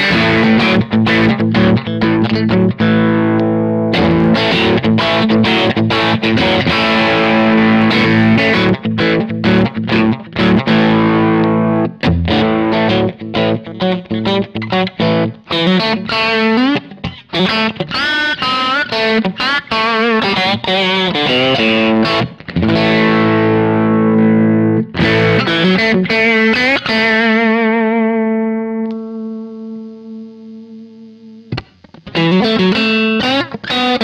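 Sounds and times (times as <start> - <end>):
electric guitar riffs: 0.0 - 34.0.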